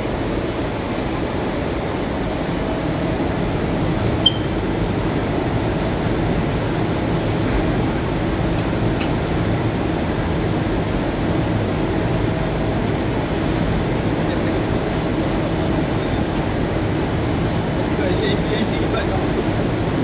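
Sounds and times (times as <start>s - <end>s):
production line machine noise: 0.0s - 20.0s.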